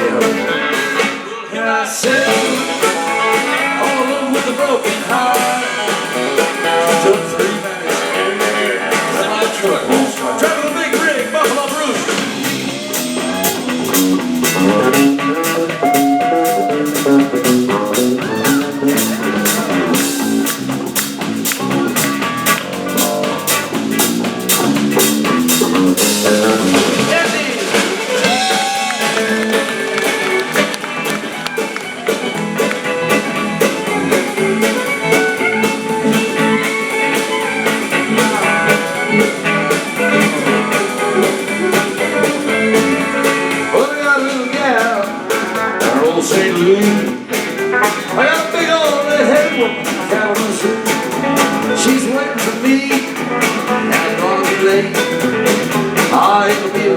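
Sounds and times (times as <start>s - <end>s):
bass guitar: 0.0s - 1.3s, 2.0s - 56.9s
electric guitar: 0.0s - 56.9s
drum kit beat: 2.1s - 56.9s.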